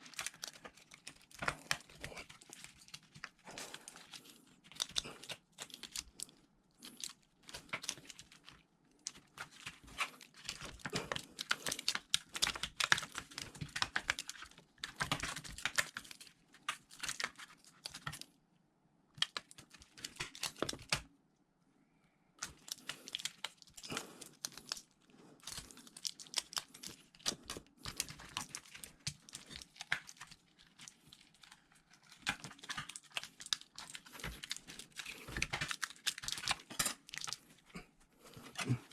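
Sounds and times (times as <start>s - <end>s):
scratching and clicking laptop parts: 0.0s - 18.4s, 19.1s - 21.1s, 22.4s - 38.9s.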